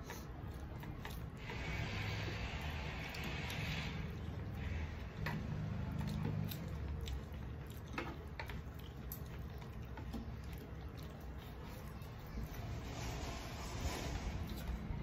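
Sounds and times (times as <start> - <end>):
chewing and mouth smacks: 0.0 - 12.9, 14.0 - 15.0
fingers mixing rice on plates: 0.0 - 15.0.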